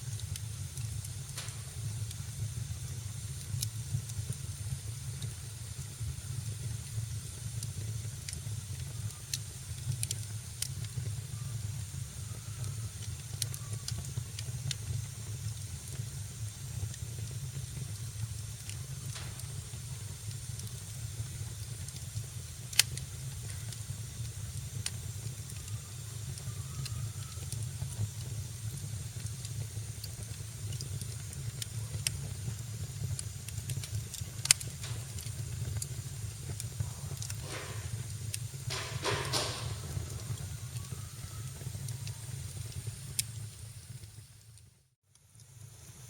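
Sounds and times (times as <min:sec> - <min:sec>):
hiss from burning wood: 0:00.0 - 0:46.0
wood fire crackling: 0:00.0 - 0:46.0.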